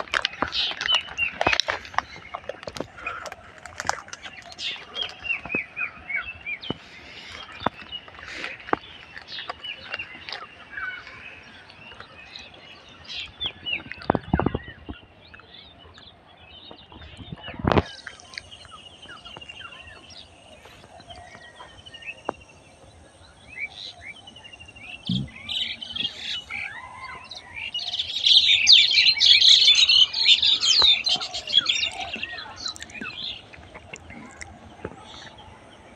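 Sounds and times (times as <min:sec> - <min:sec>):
birds chirping and twittering: 0:00.0 - 0:35.9.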